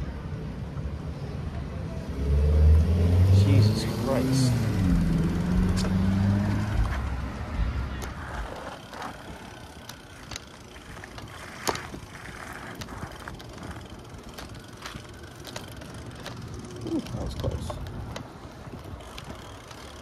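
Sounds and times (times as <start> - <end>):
bicycle road rumble: 0.0 - 20.0
bicycle clicks and rattles: 3.4 - 20.0.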